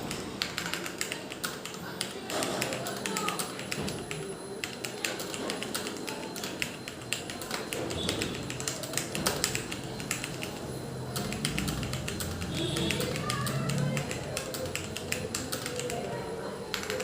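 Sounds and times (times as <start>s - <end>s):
typing on computer keyboard: 0.0s - 17.0s.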